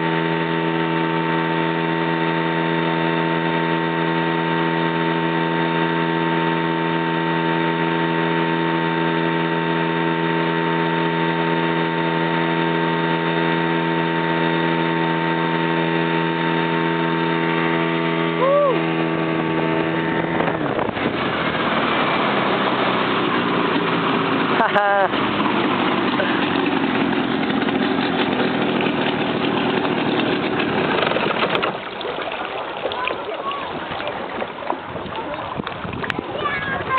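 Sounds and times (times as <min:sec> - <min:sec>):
motorboat engine droning: 0:00.0 - 0:36.9.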